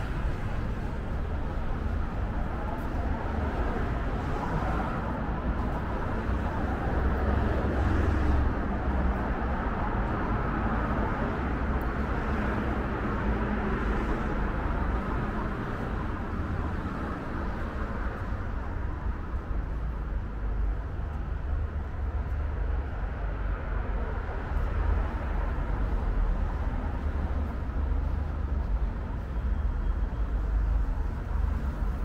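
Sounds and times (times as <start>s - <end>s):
passing road traffic: 0.0s - 32.0s.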